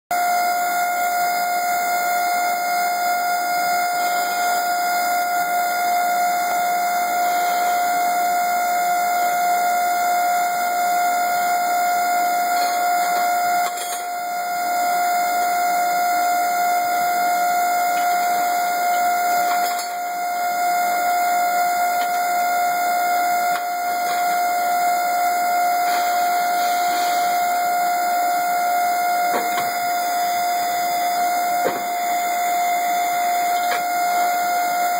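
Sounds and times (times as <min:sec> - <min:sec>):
machine high-pitched tone: 0:00.1 - 0:34.9.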